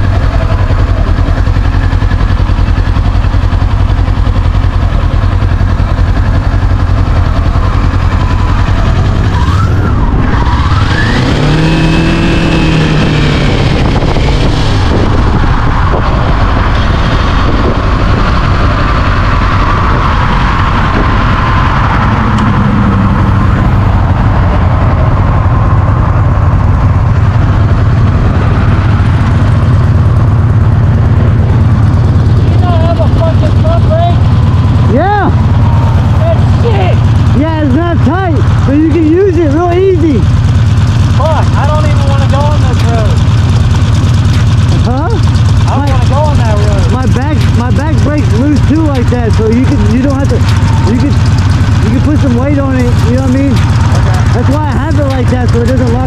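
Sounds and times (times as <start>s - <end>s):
heavy wind noise: 0.0s - 56.0s
motorcycle engine drone: 0.0s - 56.0s.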